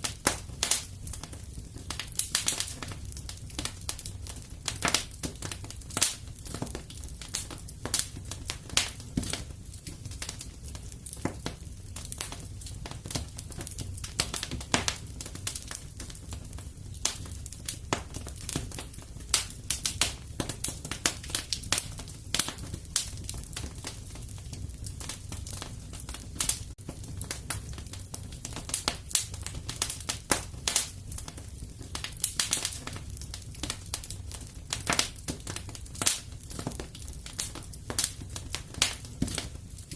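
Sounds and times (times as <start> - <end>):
fire crackles and pops: 0.0 - 39.9
low rumble of flame: 0.0 - 39.9.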